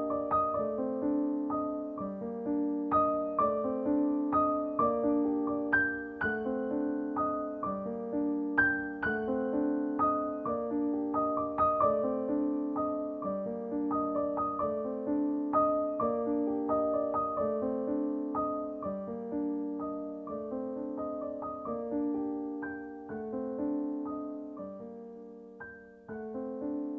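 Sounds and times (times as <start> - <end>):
piano music: 0.0 - 26.9.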